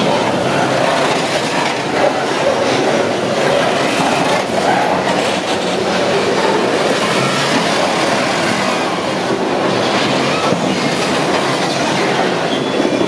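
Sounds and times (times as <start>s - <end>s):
freight train rumbling past: 0.0s - 13.0s
steel wheels clattering over rail joints: 0.0s - 13.0s.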